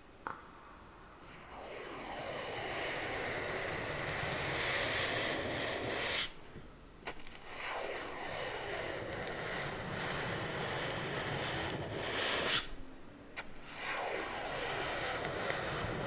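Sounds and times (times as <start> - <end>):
scratching on an object: 1.3 - 6.4, 7.1 - 12.8, 13.4 - 16.0.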